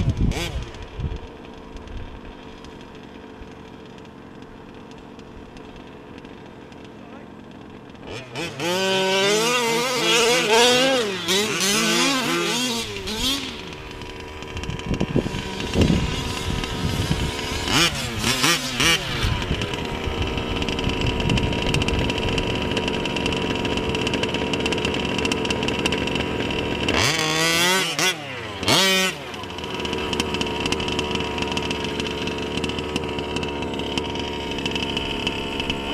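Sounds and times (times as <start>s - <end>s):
small two-stroke engine revving: 0.0s - 35.9s.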